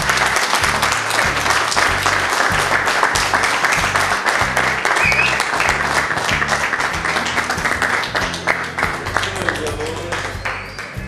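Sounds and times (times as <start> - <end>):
audience applauding: 0.0 - 11.0
background music with low bass: 0.0 - 11.0.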